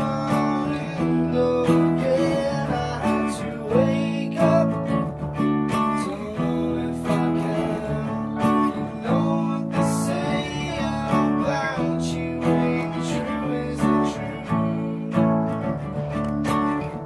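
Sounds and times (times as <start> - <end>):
man singing: 0.0 - 16.0
acoustic guitar strumming: 0.0 - 17.0.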